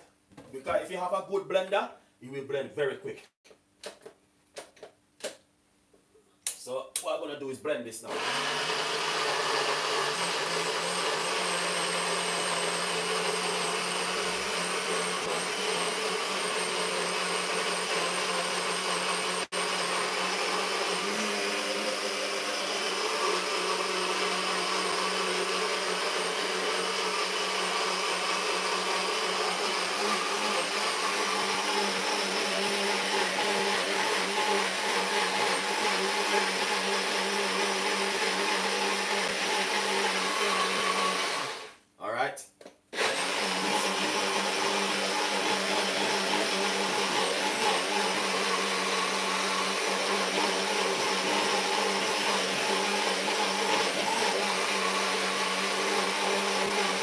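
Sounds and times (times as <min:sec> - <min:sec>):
blender motor running: 0:08.1 - 0:41.8, 0:42.9 - 0:57.0.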